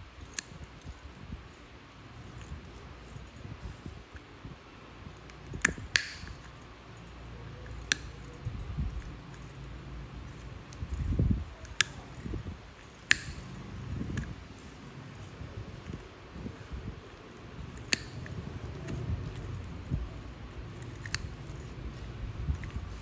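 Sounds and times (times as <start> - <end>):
soft handling noise: 0.0 - 23.0
nail nippers snipping: 0.2 - 4.2, 5.2 - 23.0.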